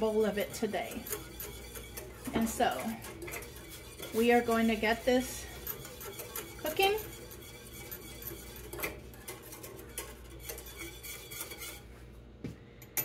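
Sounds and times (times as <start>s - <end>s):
whisk scraping metal saucepan: 0.0s - 12.0s.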